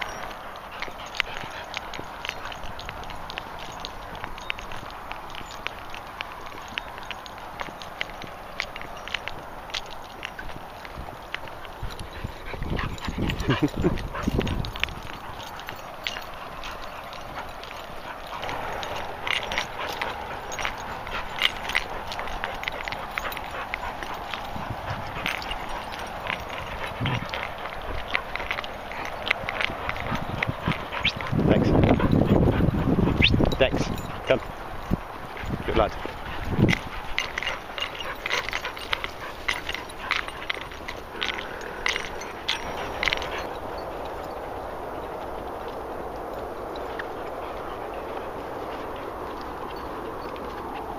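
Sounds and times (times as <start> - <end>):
light metal clinking: 0.0 - 50.9.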